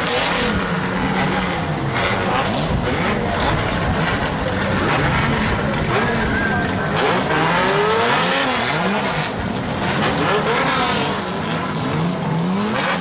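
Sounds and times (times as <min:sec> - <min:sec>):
stock car engines racing: 0:00.0 - 0:13.0.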